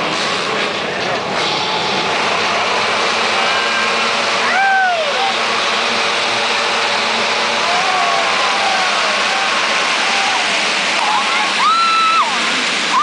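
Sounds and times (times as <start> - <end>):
high held engine note: 0.0 - 13.0
motocross bikes revving: 0.0 - 13.0.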